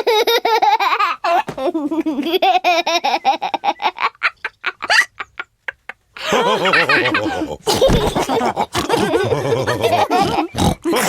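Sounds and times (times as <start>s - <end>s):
cartoon characters laughing: 0.1s - 11.0s.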